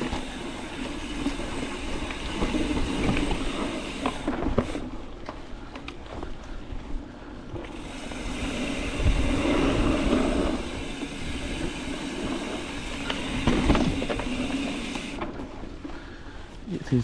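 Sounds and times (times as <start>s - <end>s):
bike rattles and knocks: 0.0s - 16.2s
bike tyres on dirt trail: 0.0s - 17.0s.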